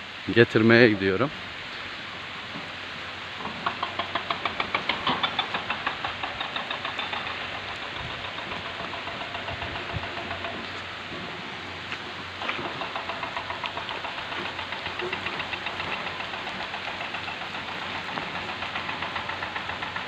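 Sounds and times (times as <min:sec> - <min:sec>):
rain hiss: 0:00.0 - 0:20.0
small engine chugging: 0:03.4 - 0:20.0.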